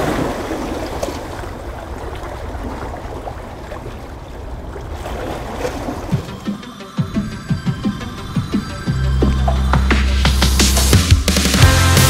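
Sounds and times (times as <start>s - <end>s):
rushing water and wind: 0.0s - 11.0s.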